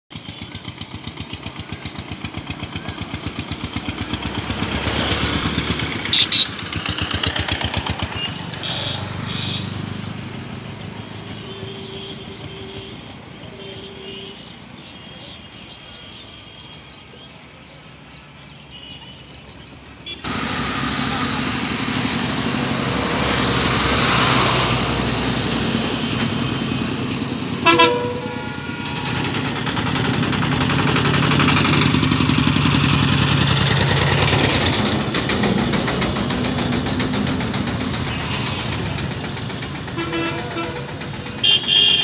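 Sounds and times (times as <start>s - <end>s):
small engine passing by: 0.2s - 13.8s, 20.2s - 41.4s.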